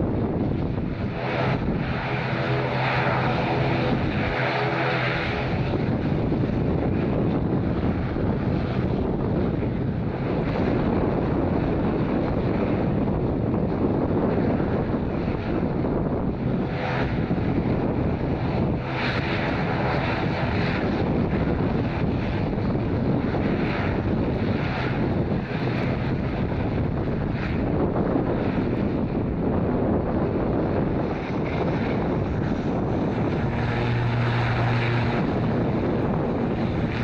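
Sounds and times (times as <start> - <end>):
turboprop engines droning: 0.0 - 37.0
wind buffeting microphone: 0.0 - 37.0.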